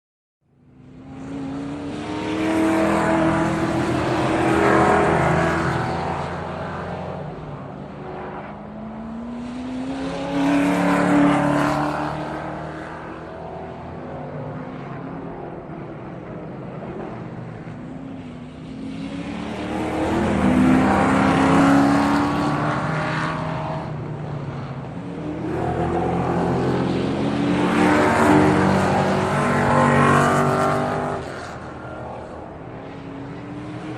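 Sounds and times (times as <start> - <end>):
sports car engines accelerating: 0.6 - 33.9.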